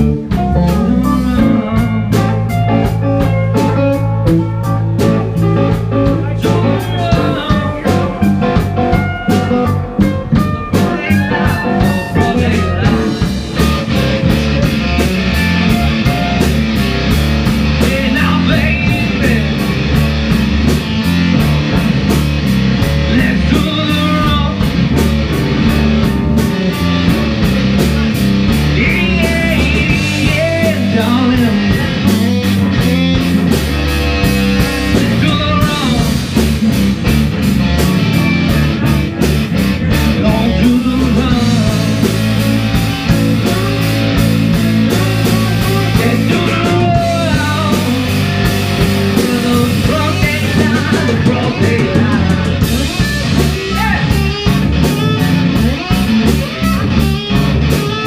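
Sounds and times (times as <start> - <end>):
bass guitar: 0.0 - 58.0
drum kit with cymbals: 0.0 - 58.0
electric guitars: 0.0 - 58.0.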